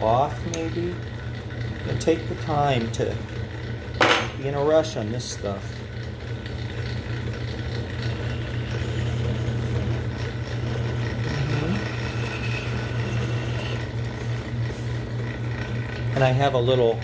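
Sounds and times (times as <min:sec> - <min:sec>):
lathe motor hum: 0:00.0 - 0:17.0.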